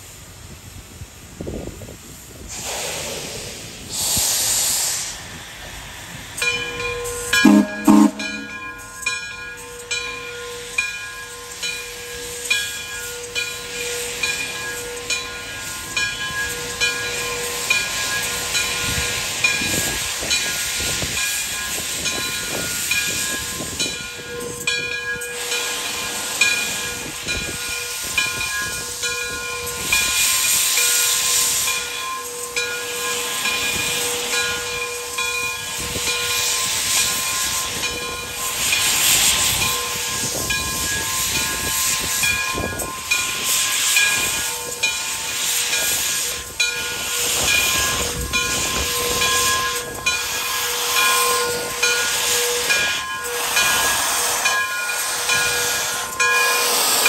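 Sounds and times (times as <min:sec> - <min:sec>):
steam hissing: 0:00.0 - 0:06.8, 0:07.4 - 0:57.0
locomotive bell ringing: 0:06.4 - 0:57.0.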